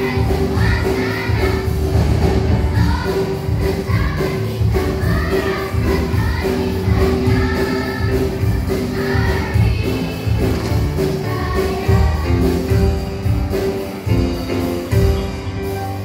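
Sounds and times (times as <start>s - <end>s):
children's choir singing: 0.0s - 16.0s
musical accompaniment with beat: 0.0s - 16.0s.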